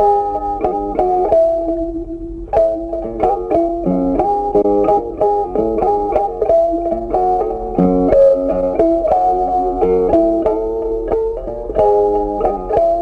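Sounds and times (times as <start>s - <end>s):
instrumental music with struck notes: 0.0s - 13.0s.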